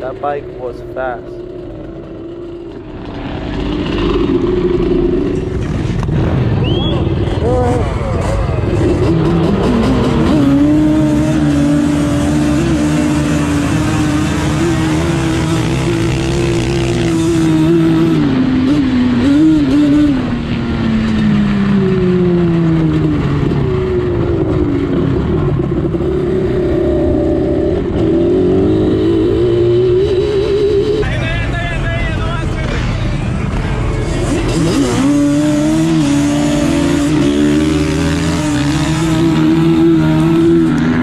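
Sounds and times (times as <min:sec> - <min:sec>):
two-stroke engine revving: 0:00.0 - 0:31.0, 0:32.6 - 0:41.0.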